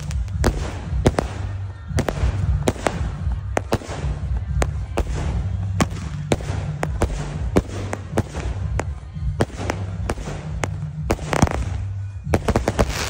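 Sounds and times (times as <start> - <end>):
background music: 0.0 - 13.0
firework bangs: 0.0 - 13.0.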